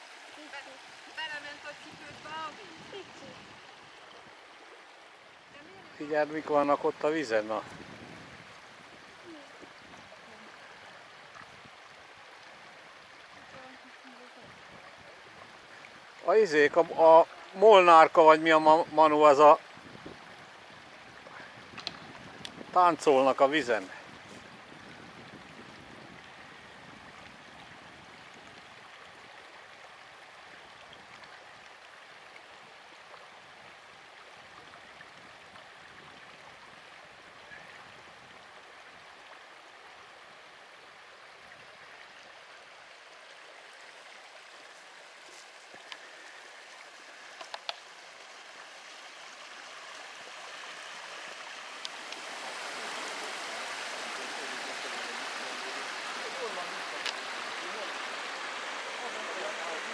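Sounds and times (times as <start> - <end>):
stream babbling over stones: 0.0 - 59.9.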